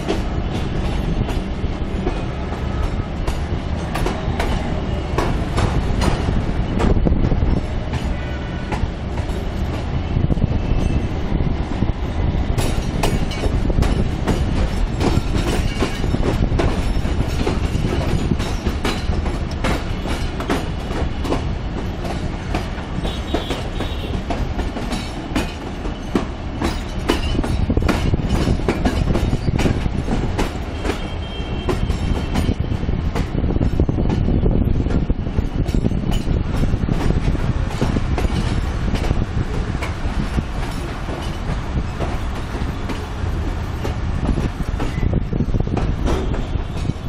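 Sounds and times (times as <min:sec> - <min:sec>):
train wheels clickety-clack: 0:00.0 - 0:47.0.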